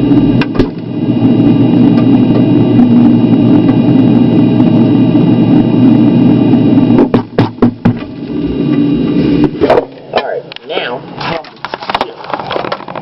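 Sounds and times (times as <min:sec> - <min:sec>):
refrigerator humming: 0:00.0 - 0:13.0.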